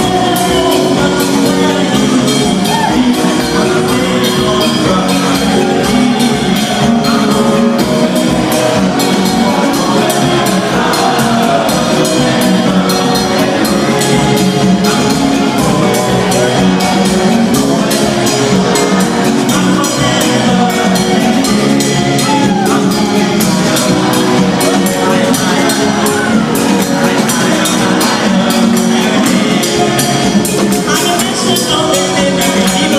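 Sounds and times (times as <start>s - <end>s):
choir singing: 0.0s - 32.9s
crowd singing along: 0.0s - 32.9s
drum kit beat: 0.0s - 32.9s
guitar: 0.0s - 32.9s
keyboard: 0.0s - 32.9s.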